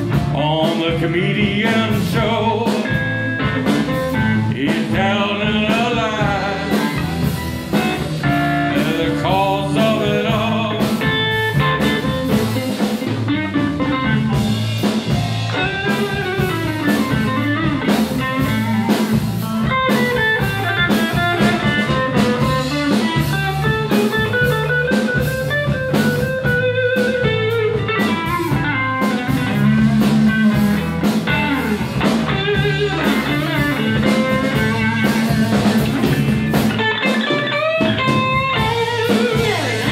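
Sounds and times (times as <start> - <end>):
bass guitar: 0.0 - 39.9
drum kit: 0.0 - 39.9
electric guitar solo: 2.2 - 4.6, 5.8 - 39.9.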